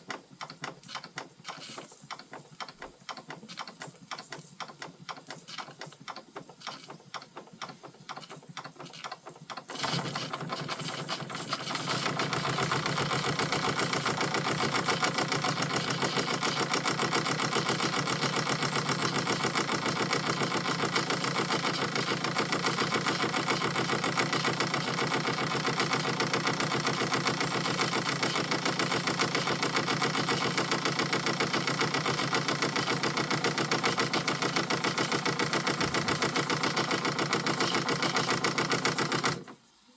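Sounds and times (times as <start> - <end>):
model steam engine running: 3.3 - 39.6.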